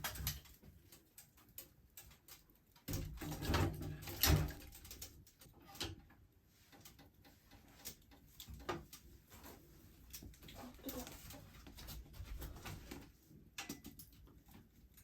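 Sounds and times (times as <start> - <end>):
light clicks and knocks: 0.0 - 15.0.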